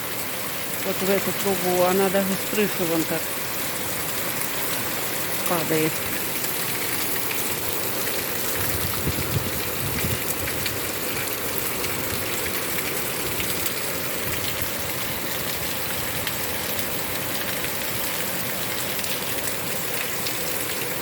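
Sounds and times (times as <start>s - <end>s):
heavy rain falling: 0.0s - 21.0s
water pouring from downpipe: 0.1s - 21.0s.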